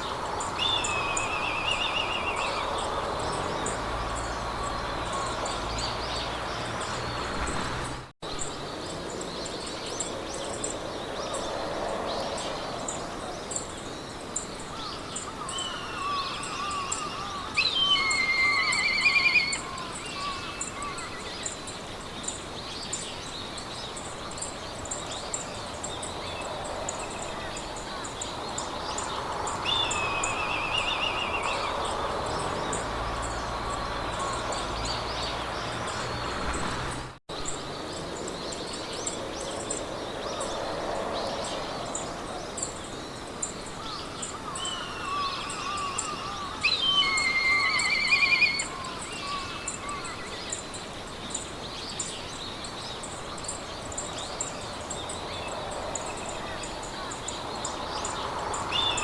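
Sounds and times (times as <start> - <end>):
songbirds singing: 0.0 - 59.0
wind in grass: 0.0 - 59.0.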